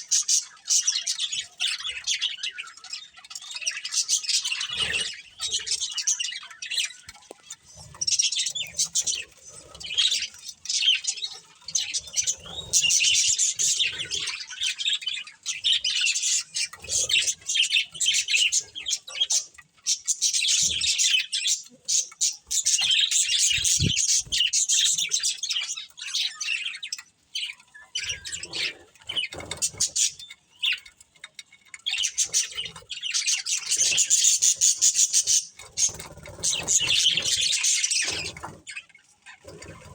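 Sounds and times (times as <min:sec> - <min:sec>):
budgerigars chirping: 0:00.0 - 0:31.0, 0:31.8 - 0:39.9.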